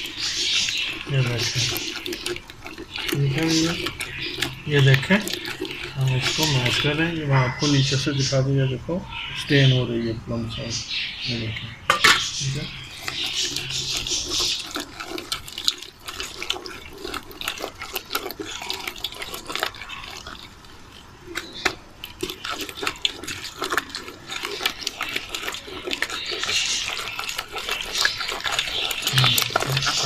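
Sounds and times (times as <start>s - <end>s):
spatula scraping pulp through strainer: 0.0s - 8.5s, 11.9s - 20.8s, 21.4s - 30.0s.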